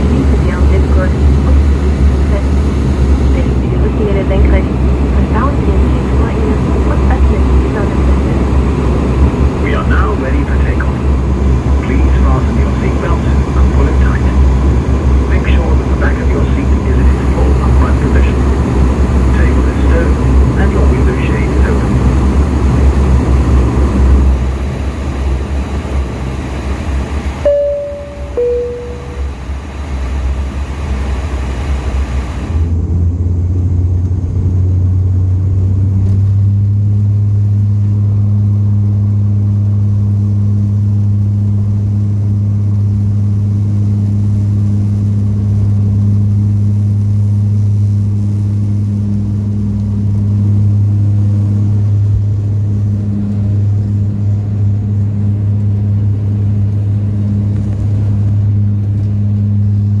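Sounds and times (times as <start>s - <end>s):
turboprop engine drone in cabin: 0.0s - 60.0s.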